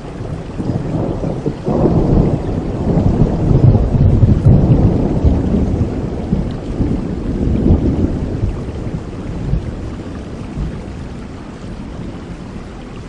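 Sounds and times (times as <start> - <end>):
thunder rumbling: 0.0 - 12.6
steady rain: 0.0 - 13.0.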